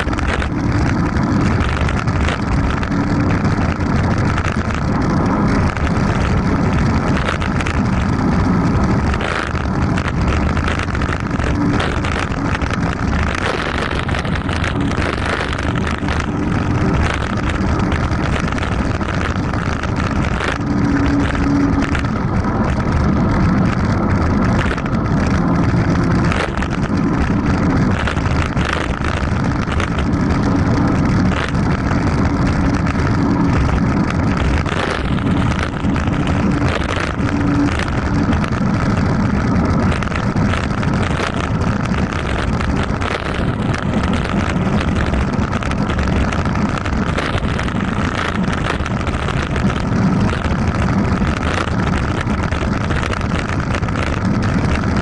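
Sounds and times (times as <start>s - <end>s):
tyres rumbling on dirt road: 0.0s - 55.0s
wind buffeting microphone: 0.0s - 55.0s.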